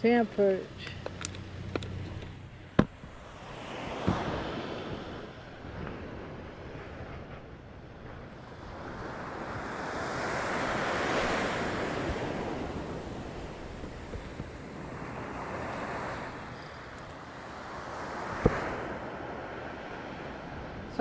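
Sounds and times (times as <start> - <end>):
wave washing ashore: 0.0 - 21.0
wind buffeting microphone: 0.1 - 21.0.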